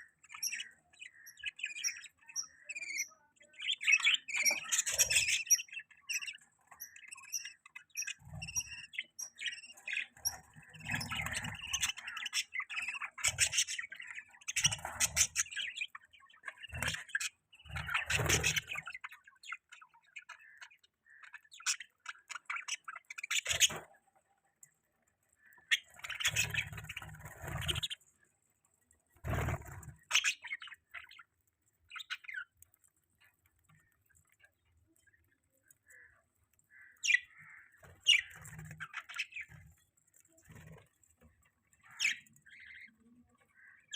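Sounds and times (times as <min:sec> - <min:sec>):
budgies chirping and chattering: 0:00.0 - 0:43.9.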